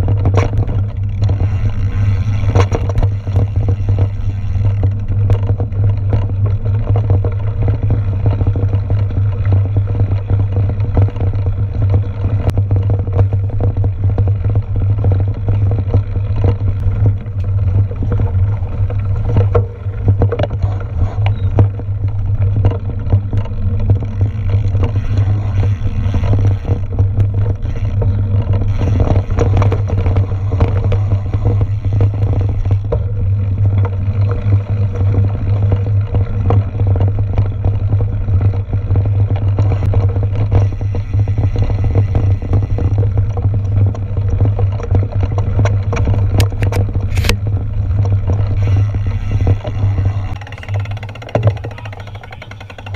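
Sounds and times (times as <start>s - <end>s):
mountain bike ride rattling: 0.0s - 52.9s.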